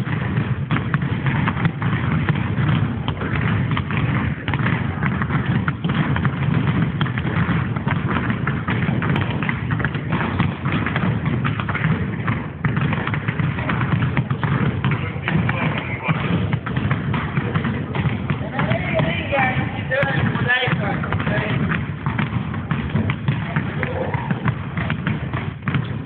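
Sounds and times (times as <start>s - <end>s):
basketballs bouncing on floor: 0.0s - 26.0s.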